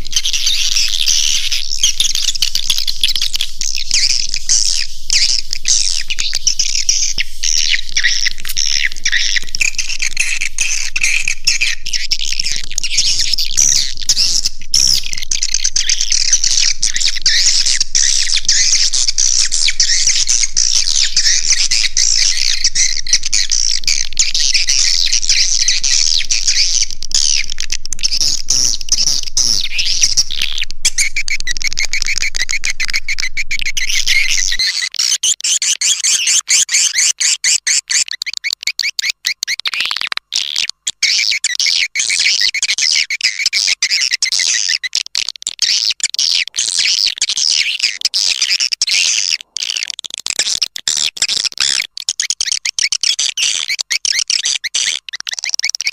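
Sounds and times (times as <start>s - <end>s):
swiftlet chirps and twitters: 0.0s - 45.0s.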